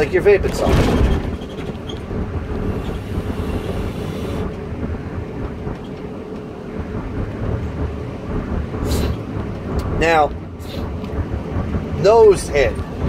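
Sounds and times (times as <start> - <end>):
van cabin rumble and hum: 0.0 - 13.0.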